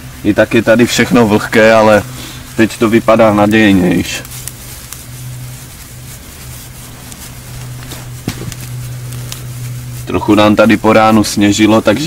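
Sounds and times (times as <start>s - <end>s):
steady low hum: 0.0s - 12.0s
straw crackling and rustling: 0.0s - 12.0s.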